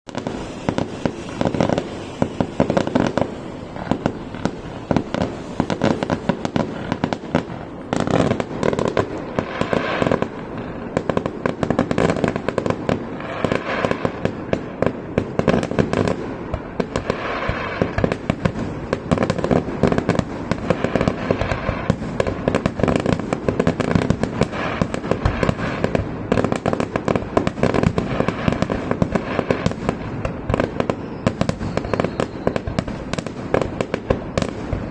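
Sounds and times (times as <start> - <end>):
fireworks bangs and crackling: 0.1 - 34.9.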